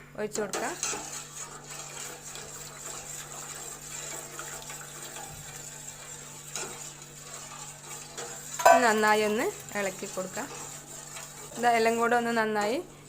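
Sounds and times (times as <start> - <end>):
liquid pouring into a pan: 0.9 - 11.6.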